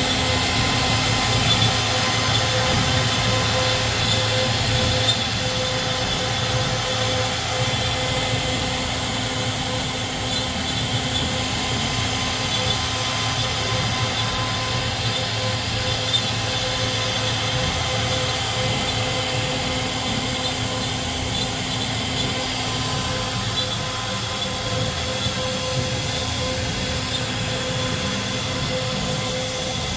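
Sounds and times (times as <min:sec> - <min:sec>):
cnc router carving wood: 0:00.0 - 0:29.9.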